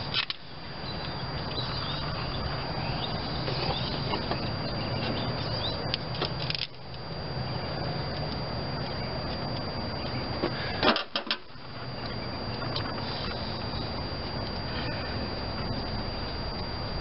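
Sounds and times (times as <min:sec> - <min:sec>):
low mechanical drone: 0:00.0 - 0:17.0
outdoor noise: 0:00.0 - 0:17.0
birds chirping: 0:00.5 - 0:10.8, 0:11.6 - 0:16.8.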